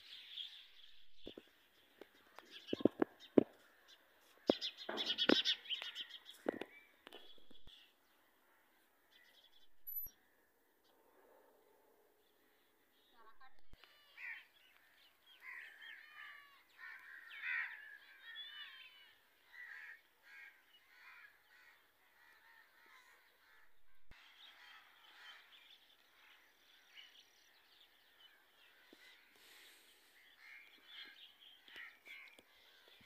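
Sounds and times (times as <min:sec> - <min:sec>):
birds chirping: 0:00.0 - 0:11.2, 0:12.2 - 0:33.0.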